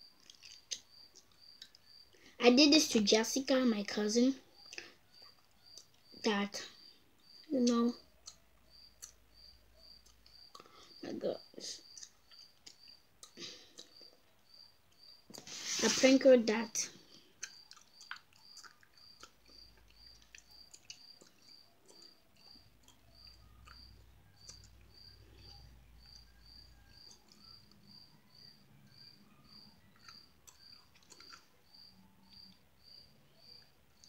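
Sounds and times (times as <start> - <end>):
cricket chirping: 0.0 - 34.0.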